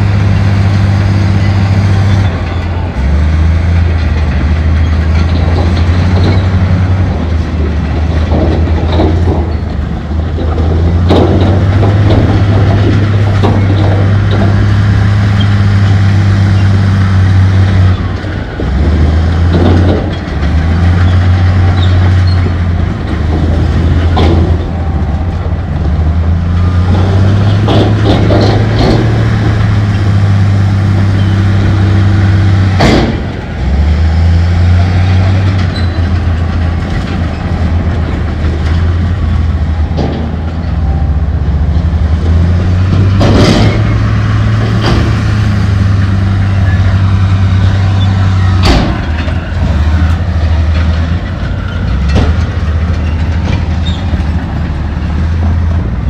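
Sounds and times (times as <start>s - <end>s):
heavy diesel engine under load: 0.0s - 56.0s
clanks of rock and steel: 3.7s - 56.0s.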